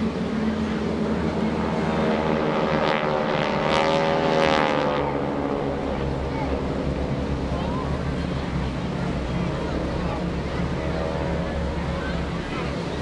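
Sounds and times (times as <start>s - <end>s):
propeller planes droning overhead: 0.0s - 13.0s.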